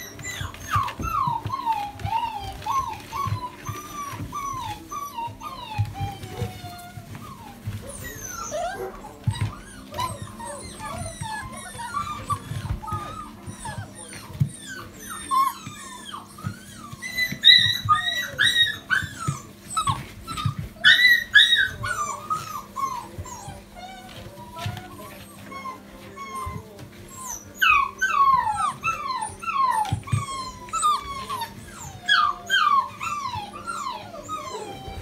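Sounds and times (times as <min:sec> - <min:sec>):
puppies whining and yelping: 0:00.0 - 0:35.0.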